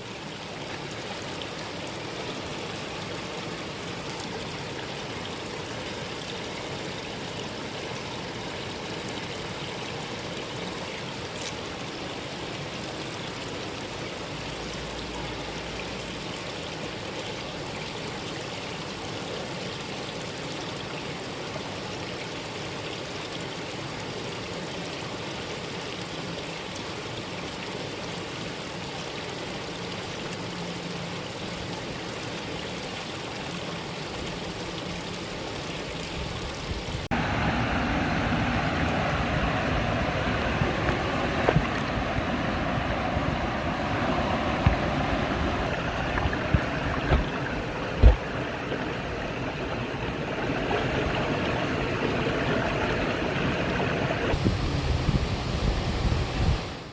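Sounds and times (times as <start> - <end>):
stream water rushing: 0.0 - 54.8.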